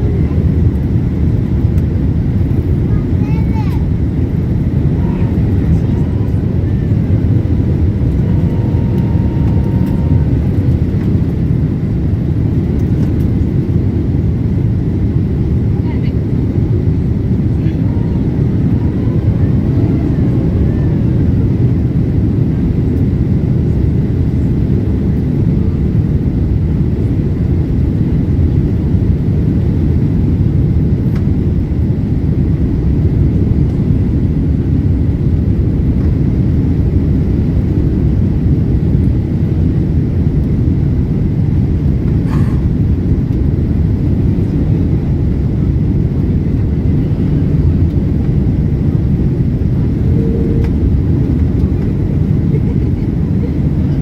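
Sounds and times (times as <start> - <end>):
jet engines and airflow in cabin: 0.0 - 54.0.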